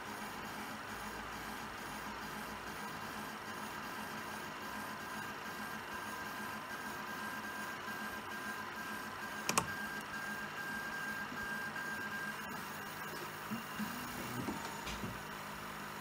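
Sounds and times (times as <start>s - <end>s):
printer mechanical whine: 0.0s - 16.0s.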